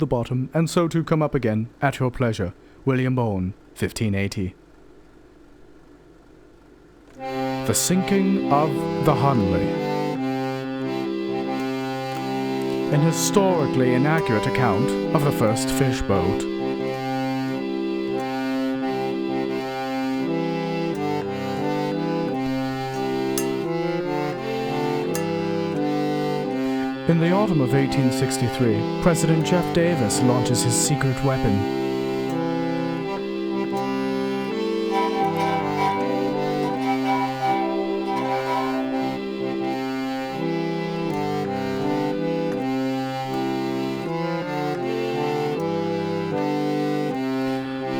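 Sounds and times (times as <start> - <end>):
electric organ chords: 7.2 - 47.9.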